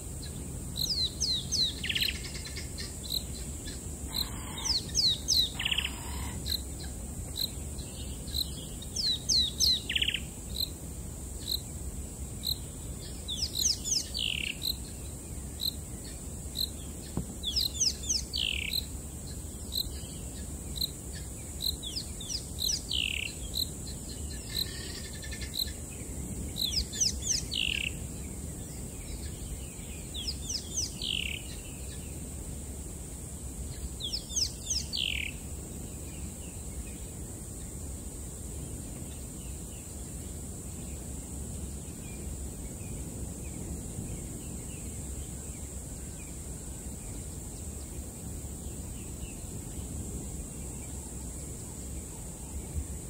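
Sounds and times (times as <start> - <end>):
high insect drone: 0.0 - 53.0.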